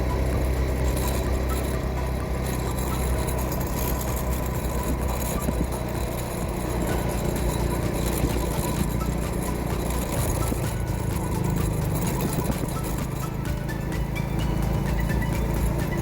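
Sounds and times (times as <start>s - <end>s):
constant rushing noise: 0.0s - 16.0s
scooter engine running: 0.0s - 16.0s.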